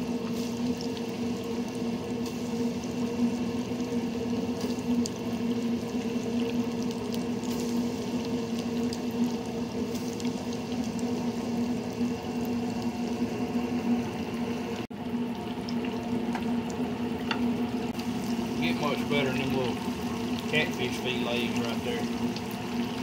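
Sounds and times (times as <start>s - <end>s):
oil bubbling and sizzling in fryer: 0.0s - 23.0s
steady low hum: 0.0s - 23.0s.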